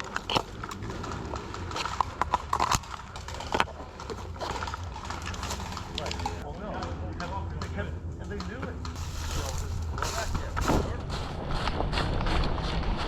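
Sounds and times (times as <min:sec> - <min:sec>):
footsteps on hard ground: 0:00.0 - 0:06.4, 0:08.3 - 0:13.0
gear knocking: 0:00.0 - 0:13.0
low rumble: 0:00.0 - 0:13.0.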